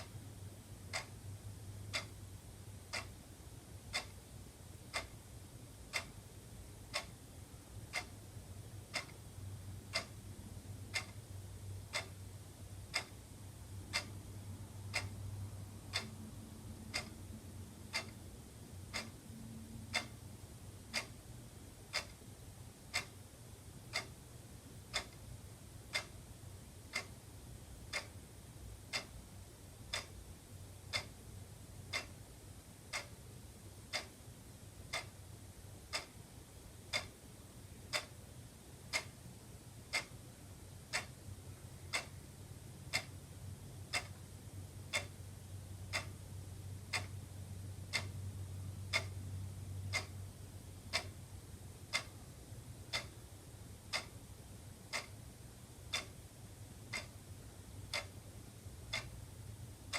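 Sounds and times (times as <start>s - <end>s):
wall clock ticking: 0.0s - 59.9s.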